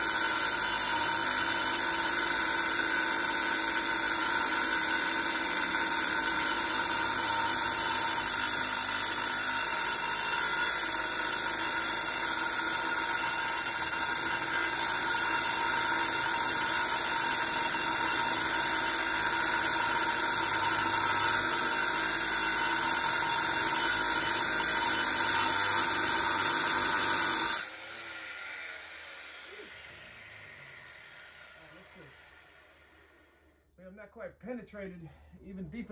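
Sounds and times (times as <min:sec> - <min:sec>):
angle grinder cutting metal: 0:00.0 - 0:33.5.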